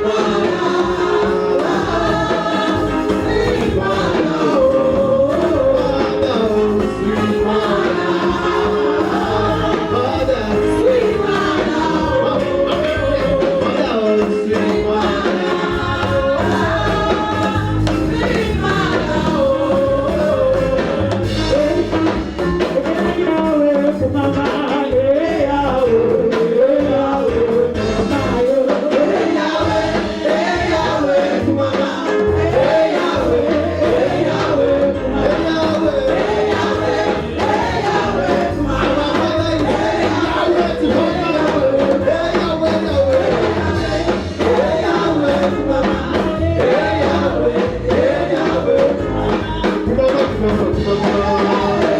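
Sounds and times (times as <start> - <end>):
instrumental backing with beat: 0.0 - 51.9
people singing: 0.0 - 51.9.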